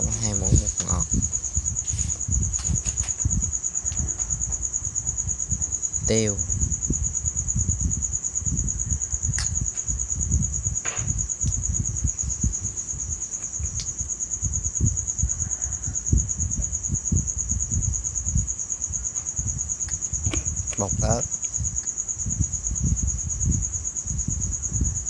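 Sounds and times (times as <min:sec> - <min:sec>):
cricket trilling: 0:00.0 - 0:25.0.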